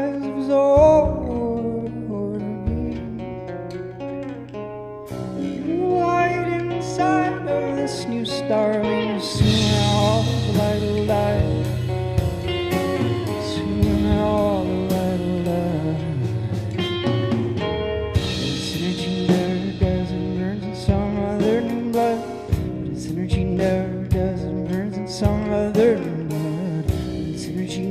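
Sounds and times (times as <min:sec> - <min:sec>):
drum kit: 0:00.0 - 0:27.9
guitars playing: 0:00.0 - 0:27.9.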